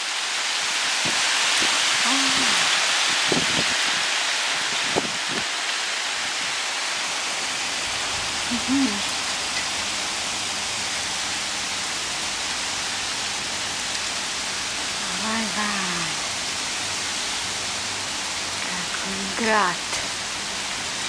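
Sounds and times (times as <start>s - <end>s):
rain and hail falling: 0.0s - 21.0s.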